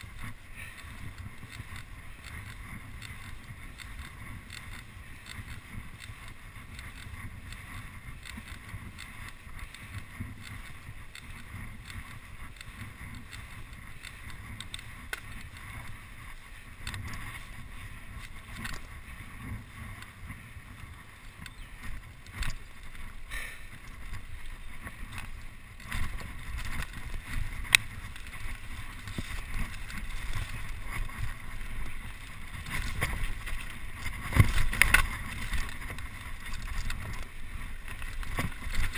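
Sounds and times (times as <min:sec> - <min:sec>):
bike clicks and rattles: 0:00.0 - 0:38.9
bike knocking on rough ground: 0:00.0 - 0:38.9
tyres rolling on tarmac: 0:00.0 - 0:38.9
wind rushing over microphone: 0:00.0 - 0:38.9.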